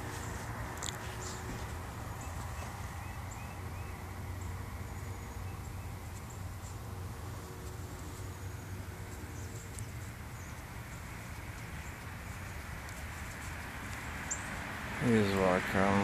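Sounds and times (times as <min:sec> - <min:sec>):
constant low rumble: 0:00.0 - 0:16.0.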